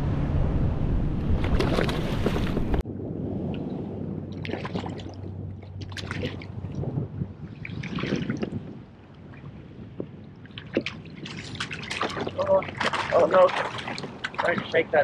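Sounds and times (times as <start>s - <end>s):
water splashing against kayak: 1.3s - 2.8s, 3.4s - 15.0s.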